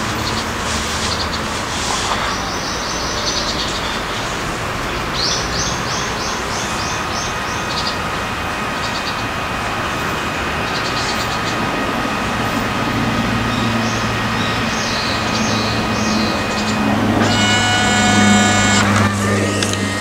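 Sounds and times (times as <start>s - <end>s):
high electronic whine: 0.0s - 20.0s
printer mechanical whir: 0.0s - 20.0s.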